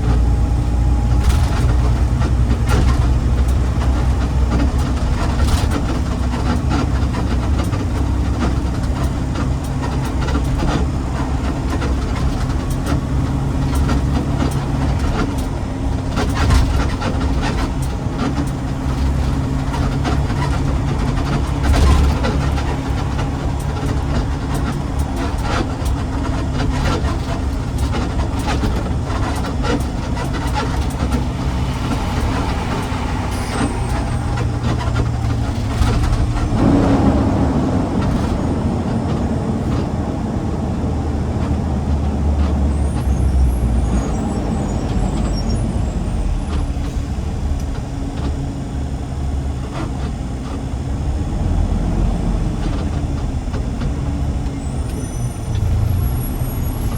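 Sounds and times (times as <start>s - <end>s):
garbage truck engine running: 0.0s - 56.9s.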